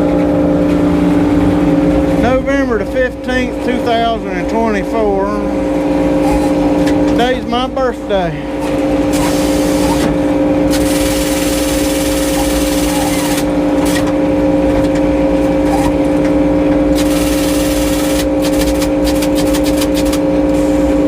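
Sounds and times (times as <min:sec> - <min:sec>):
sawmill droning: 0:00.0 - 0:21.0.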